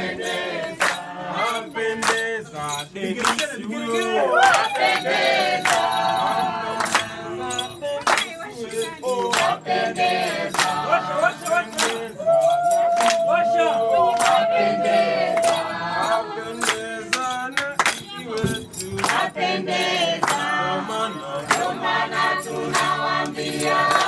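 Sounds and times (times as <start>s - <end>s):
group singing a birthday song: 0.0s - 24.0s.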